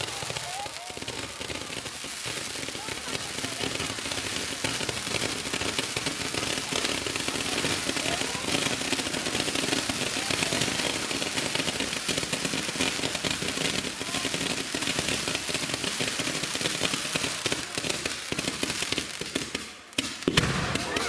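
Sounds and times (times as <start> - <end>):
firework crackling hiss: 0.0 - 21.0.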